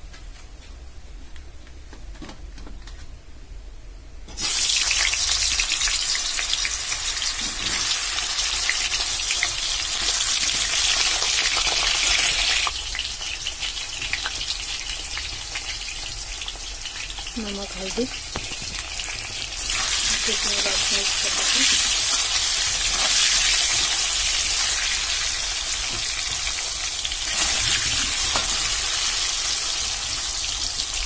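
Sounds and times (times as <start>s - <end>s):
potatoes frying in hot oil: 4.3s - 31.0s.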